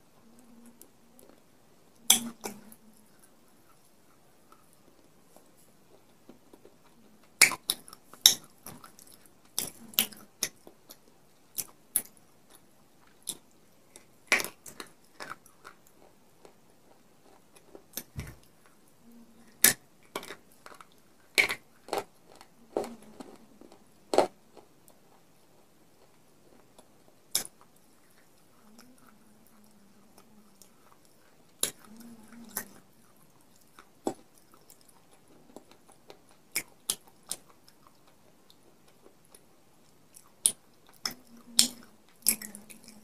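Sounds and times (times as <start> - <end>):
chewing: 0.2 - 43.0.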